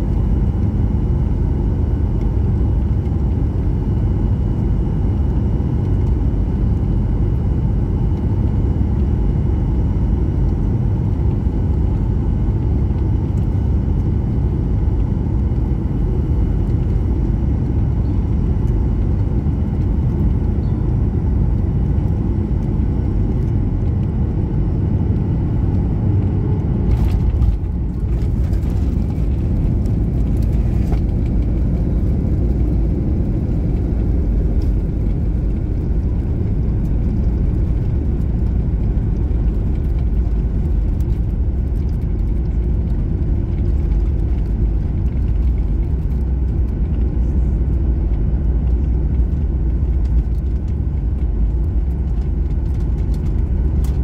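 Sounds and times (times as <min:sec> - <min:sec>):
jet engines and wheels rumbling: 0:00.0 - 0:54.0.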